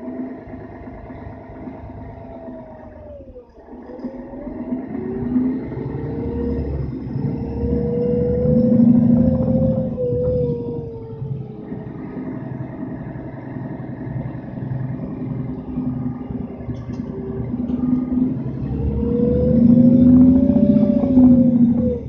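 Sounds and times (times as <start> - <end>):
bus engine with whine: 0.0 - 22.0.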